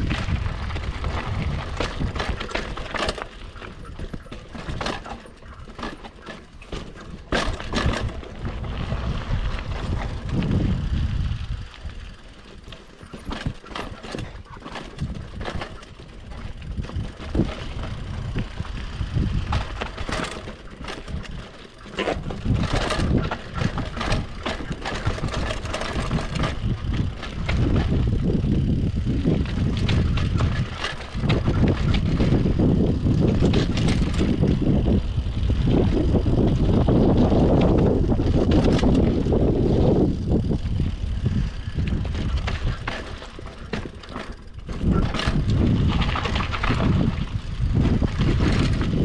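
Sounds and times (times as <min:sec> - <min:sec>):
mountain bike clattering: 0:00.0 - 0:49.0
wind rumbling on microphone: 0:00.0 - 0:49.0.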